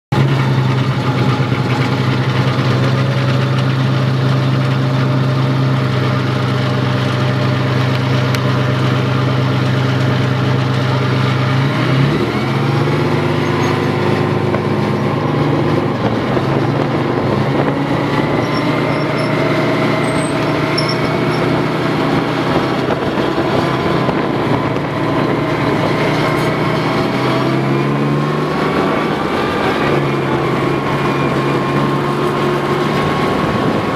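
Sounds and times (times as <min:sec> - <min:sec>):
tank engine running: 0:00.1 - 0:33.9.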